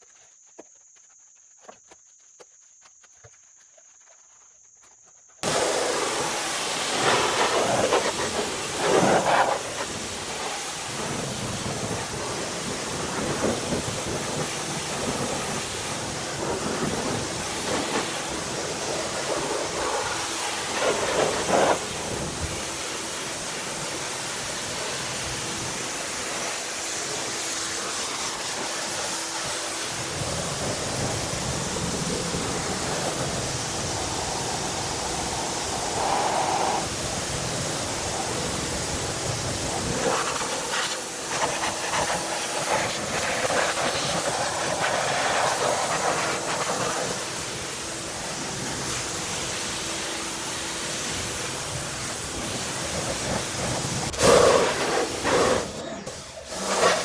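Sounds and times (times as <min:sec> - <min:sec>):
pressure washer spraying water: 0:05.4 - 0:57.0.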